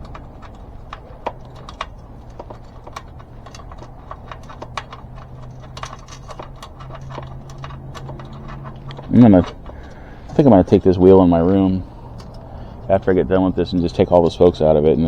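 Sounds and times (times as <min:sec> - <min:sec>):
bicycle spokes clicking and tapping: 0:00.0 - 0:12.5.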